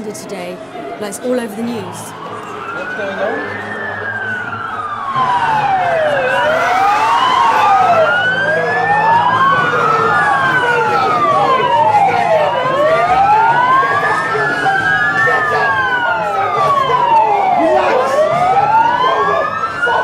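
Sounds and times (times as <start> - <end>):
police sirens wailing: 0.0 - 20.0.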